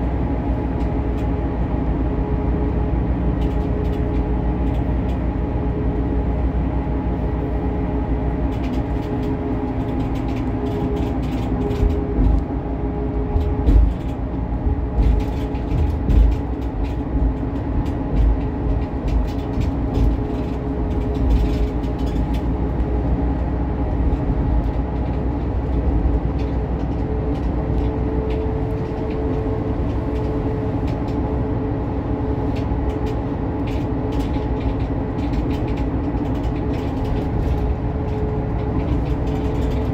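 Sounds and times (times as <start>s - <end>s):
body rattles and clicks: 0.0s - 6.1s, 8.2s - 39.9s
bus engine and road rumble: 0.0s - 39.9s
drivetrain whine: 0.0s - 39.9s.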